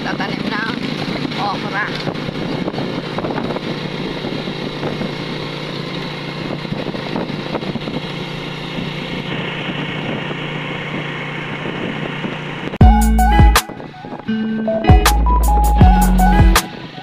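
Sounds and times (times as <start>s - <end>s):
motorcycle engine cruising: 0.0s - 17.0s
road noise: 0.0s - 17.0s
wind noise: 0.0s - 17.0s.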